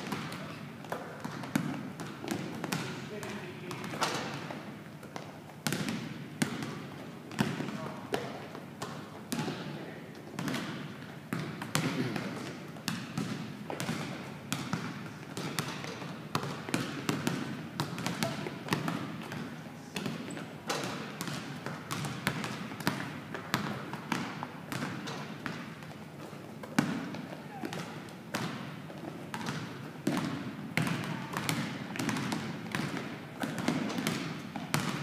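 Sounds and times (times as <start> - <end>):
basketballs bouncing on wooden floor: 0.0 - 35.0.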